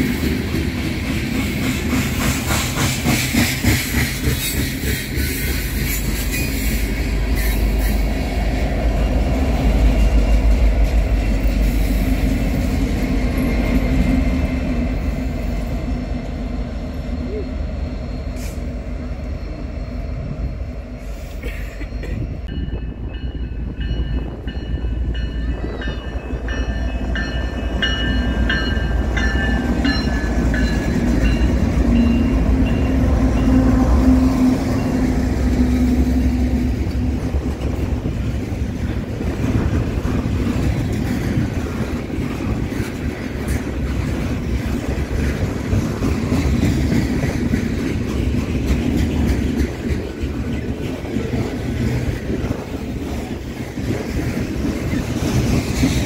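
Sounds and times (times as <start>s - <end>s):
freight train rumbling on rails: 0.0s - 56.0s.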